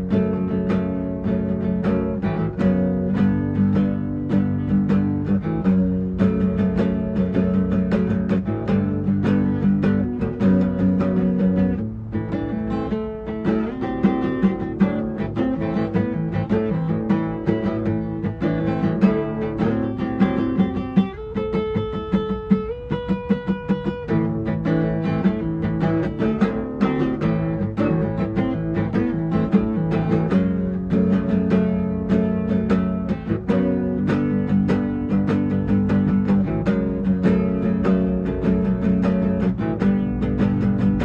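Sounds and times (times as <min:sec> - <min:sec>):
acoustic guitar: 0:00.0 - 0:41.0.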